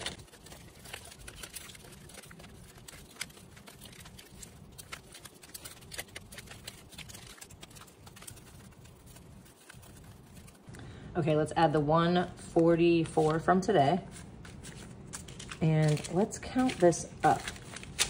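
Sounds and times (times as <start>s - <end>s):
paper banknotes rustling: 0.0s - 10.6s, 12.3s - 18.0s.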